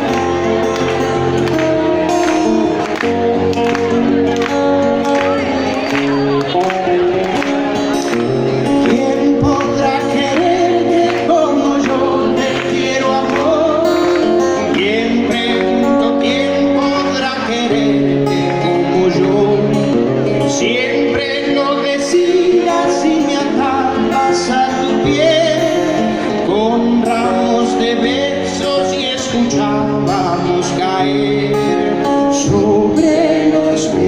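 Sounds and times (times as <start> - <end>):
live band music: 0.0 - 34.0
man singing: 4.9 - 34.0.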